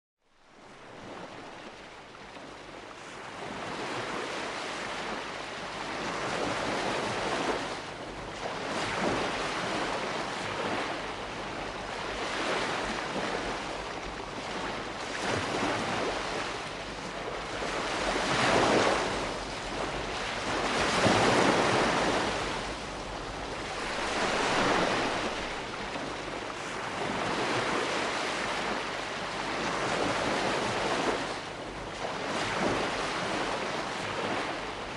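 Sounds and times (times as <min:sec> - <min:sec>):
small waves washing: 0:00.4 - 0:34.9.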